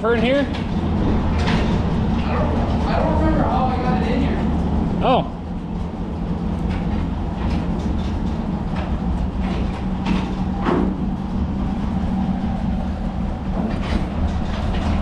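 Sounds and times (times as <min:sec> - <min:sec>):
tractor engine running: 0:00.0 - 0:15.0
metallic knocks and rattles: 0:00.2 - 0:12.2, 0:13.5 - 0:15.0.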